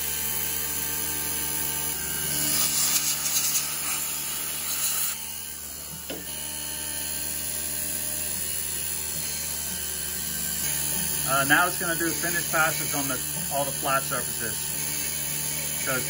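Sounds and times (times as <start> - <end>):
mill motor whine: 0.0 - 16.0.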